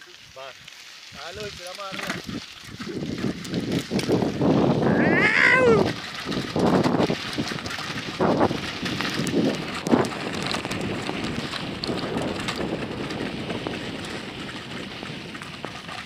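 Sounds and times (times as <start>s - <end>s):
bicycle tyres crunching on dirt: 0.0s - 16.0s
bike clattering over bumps: 0.9s - 16.0s
wind on microphone: 1.3s - 16.0s.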